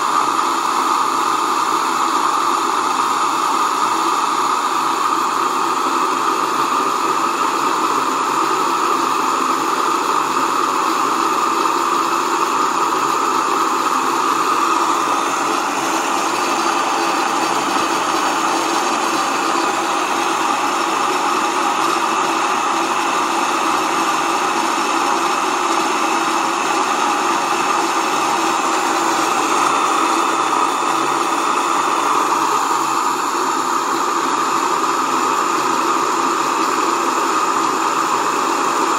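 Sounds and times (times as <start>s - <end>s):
electric grain mill grinding: 0.0s - 38.9s.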